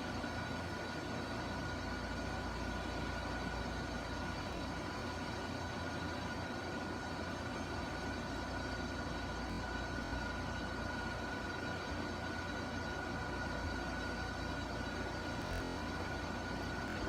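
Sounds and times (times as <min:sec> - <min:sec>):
background hum and hiss: 0:00.0 - 0:17.0
faint high whine: 0:00.0 - 0:17.0.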